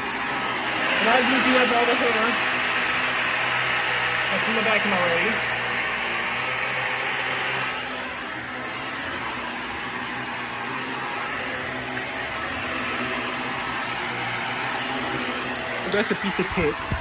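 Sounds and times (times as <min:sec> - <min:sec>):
vacuum cleaner whirring: 0:00.0 - 0:17.0.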